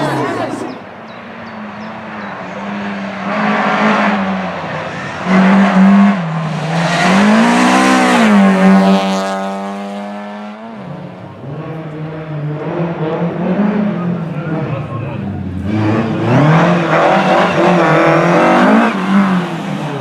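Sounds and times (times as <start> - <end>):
rally car engine revving: 1.6 - 20.0.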